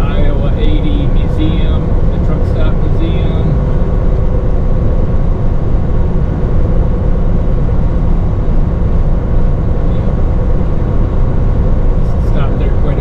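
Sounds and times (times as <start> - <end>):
moving truck rumble: 0.0 - 13.0.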